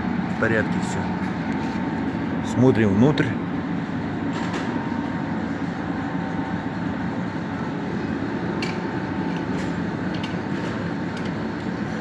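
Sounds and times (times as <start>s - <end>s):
machine drone with thin whine: 0.0s - 12.0s.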